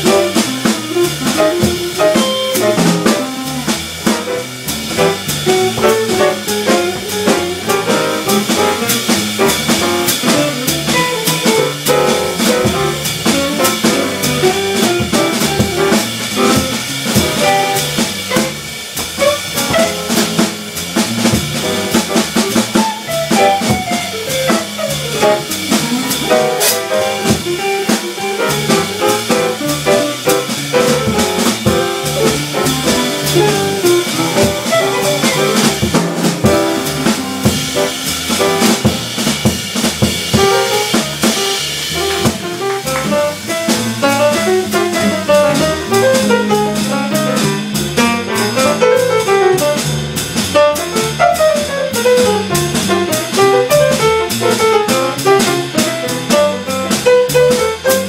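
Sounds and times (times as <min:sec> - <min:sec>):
drum kit with busy cymbals: 0:00.0 - 0:58.0
piano: 0:00.0 - 0:58.0
upright bass: 0:00.0 - 0:58.0.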